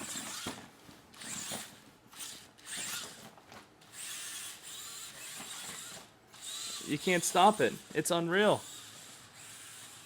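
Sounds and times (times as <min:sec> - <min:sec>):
toy car motor whirring: 0:00.0 - 0:10.0.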